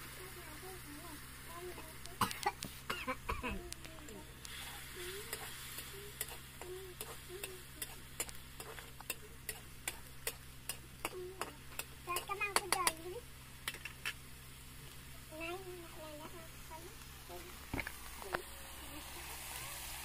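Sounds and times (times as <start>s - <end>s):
oil sizzling: 0.0s - 20.0s.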